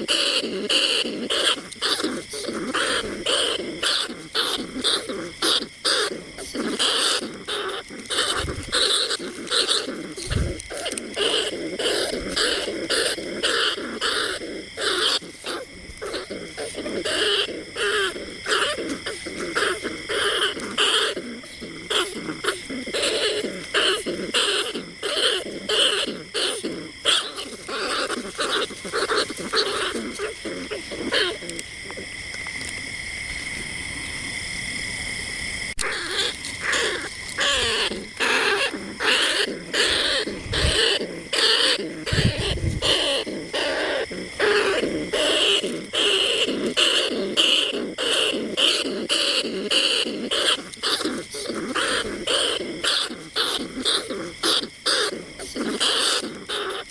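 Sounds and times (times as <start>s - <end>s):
rats squeaking: 0.0s - 32.8s, 35.8s - 56.9s.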